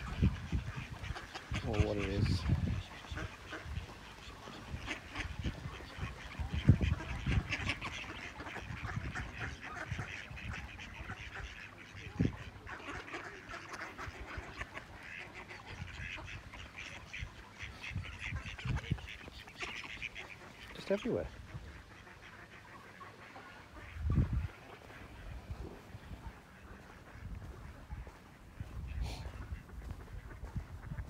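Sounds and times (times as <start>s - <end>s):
ducks quacking: 0.0s - 31.0s.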